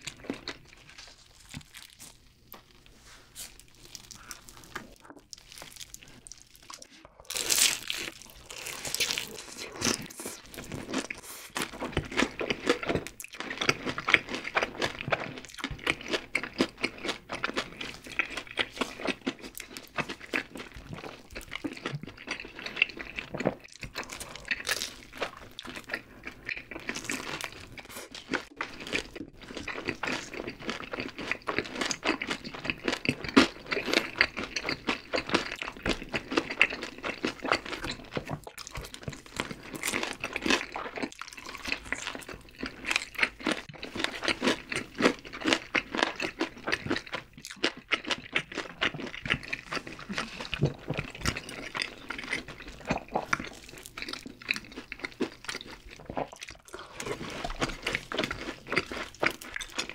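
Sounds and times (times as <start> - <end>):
fried chicken crunching: 0.0 - 59.9.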